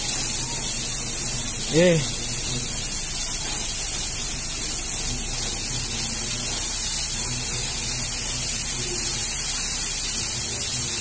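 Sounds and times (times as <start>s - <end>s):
water jet spraying: 0.0s - 11.0s.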